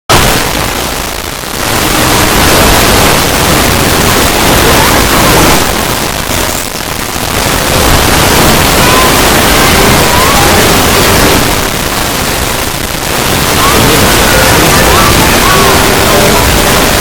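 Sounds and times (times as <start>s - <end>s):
loud distorted static noise: 0.0s - 17.0s.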